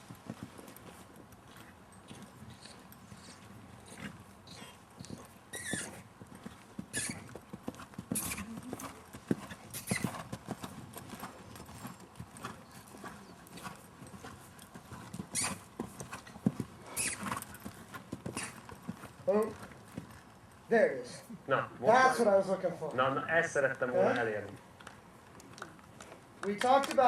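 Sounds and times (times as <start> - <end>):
horse hooves clopping: 0.0 - 21.3, 22.0 - 27.0.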